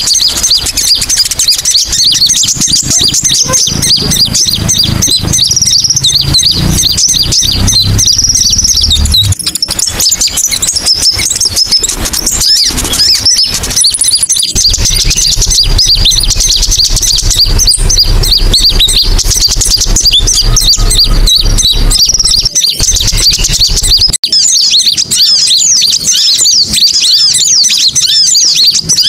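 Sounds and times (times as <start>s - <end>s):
low hum: 0.0s - 24.2s
many small birds chirping: 0.0s - 29.0s.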